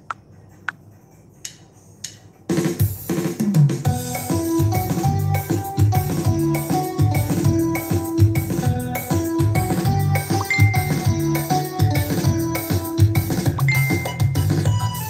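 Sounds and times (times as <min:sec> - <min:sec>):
music with strong drum beat: 0:01.4 - 0:15.0.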